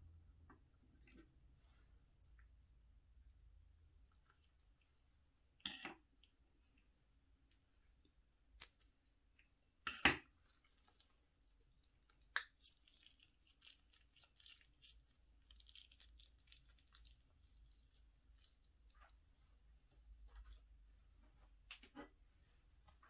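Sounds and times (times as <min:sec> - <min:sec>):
slime squishing with wet crackles: 0:00.5 - 0:20.7.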